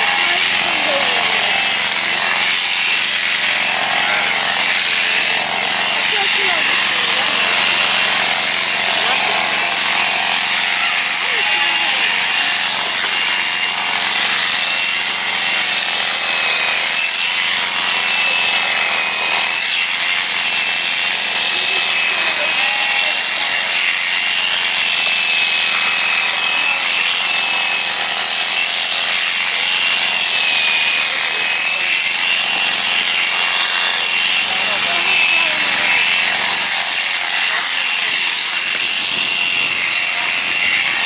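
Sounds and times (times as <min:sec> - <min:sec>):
electric shearing handpiece whining: 0:00.0 - 0:41.0.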